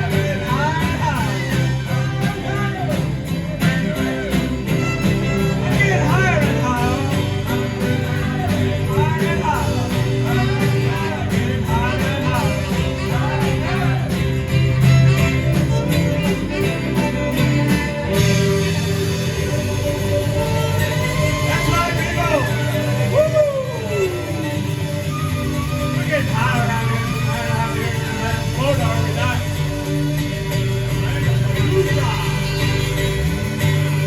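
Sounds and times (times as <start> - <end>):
bass line: 0.0 - 34.0
lead melody with bending notes: 0.0 - 34.0
live rock band playing: 0.0 - 34.0.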